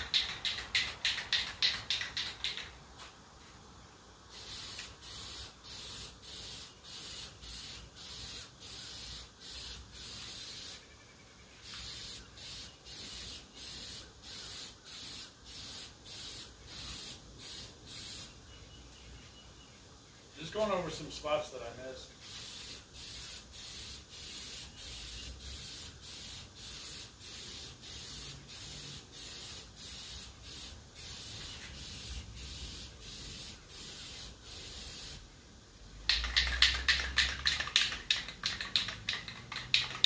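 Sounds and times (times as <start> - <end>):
spray paint hissing bursts: 0.0 - 2.8, 4.2 - 10.9, 11.6 - 18.4, 22.1 - 40.0
spray can rattling: 0.0 - 2.9, 4.3 - 10.8, 11.6 - 18.3, 22.2 - 35.2, 36.0 - 40.0.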